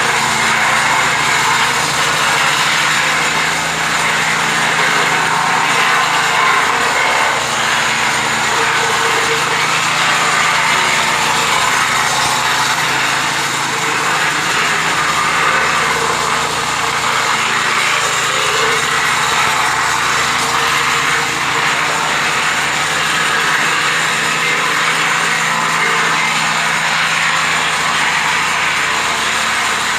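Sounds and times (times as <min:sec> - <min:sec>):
machine engine droning: 0:00.0 - 0:29.9.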